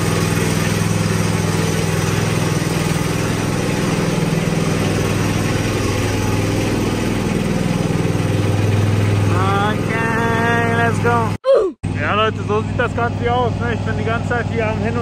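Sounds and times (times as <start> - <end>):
ride-on mower engine running: 0.0 - 15.0.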